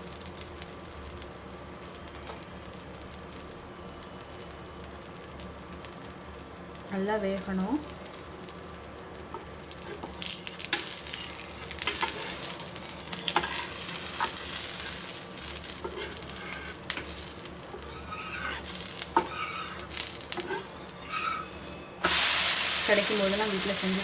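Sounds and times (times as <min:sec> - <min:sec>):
dosa sizzling in oil: 0:00.0 - 0:24.0
oil spattering crackles: 0:00.0 - 0:24.0.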